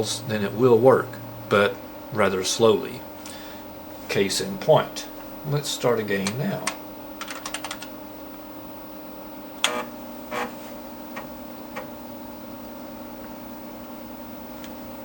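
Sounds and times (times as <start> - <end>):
computer hum: 0.0 - 15.0.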